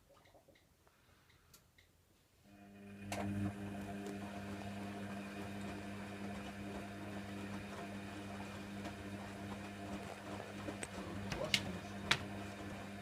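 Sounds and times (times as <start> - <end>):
drain pump humming: 2.5 - 13.0.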